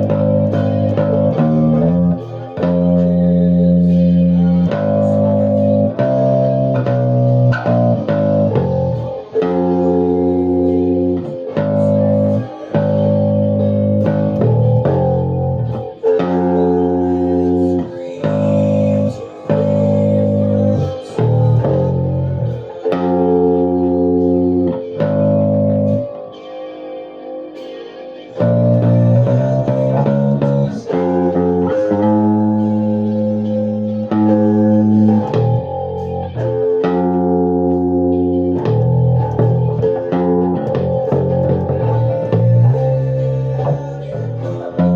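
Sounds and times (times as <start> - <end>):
guitar chords with bass: 0.0 - 44.9.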